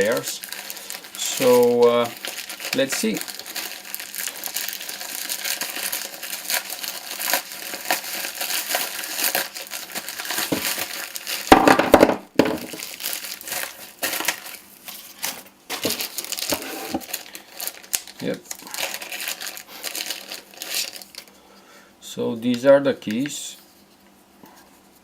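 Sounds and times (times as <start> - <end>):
packaging crinkling: 0.0 - 21.4.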